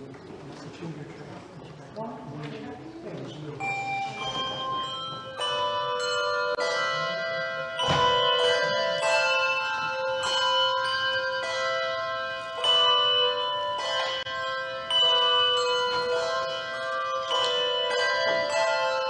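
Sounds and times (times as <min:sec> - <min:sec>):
handbell choir playing chords: 0:03.6 - 0:19.0.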